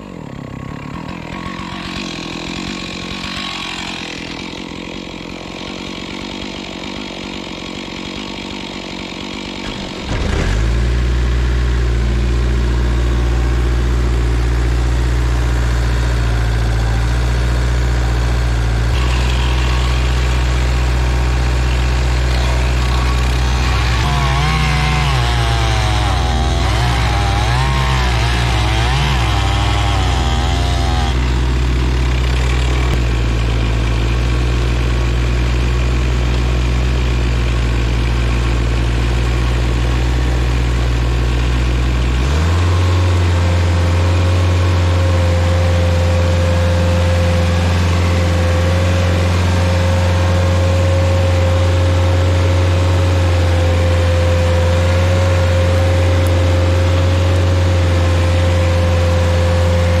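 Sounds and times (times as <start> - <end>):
stump grinder engine running: 0.0 - 60.0.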